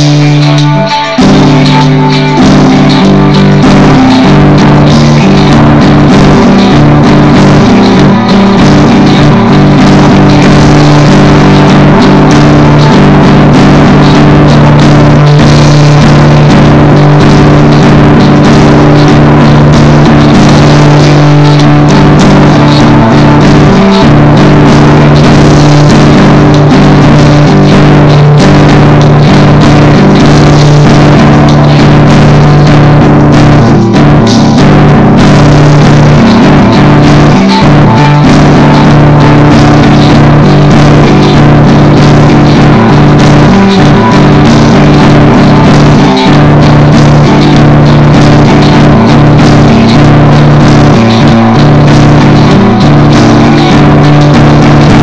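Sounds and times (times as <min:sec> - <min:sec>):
loud rock music: 0:00.0 - 0:55.0.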